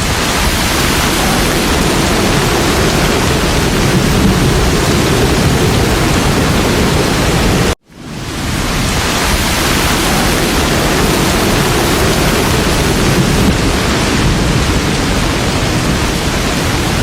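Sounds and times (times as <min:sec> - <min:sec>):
steady loud rushing noise: 0:00.0 - 0:17.0.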